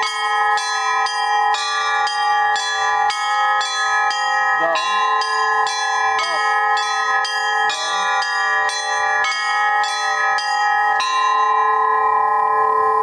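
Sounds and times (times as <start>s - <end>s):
hum of large bells: 0.0s - 13.0s
small church bells striking: 0.0s - 13.0s.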